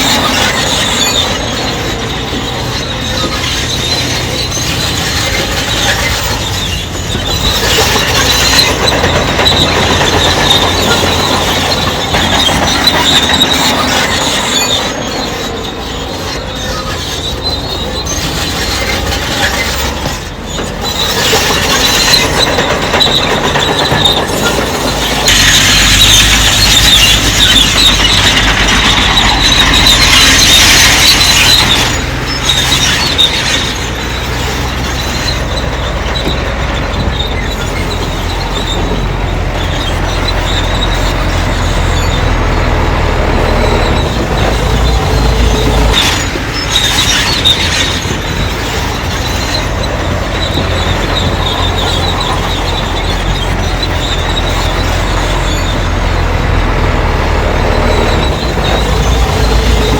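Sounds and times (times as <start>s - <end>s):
bulldozer diesel engine under load: 0.0s - 59.9s
steel tracks squealing and clanking: 0.0s - 59.9s.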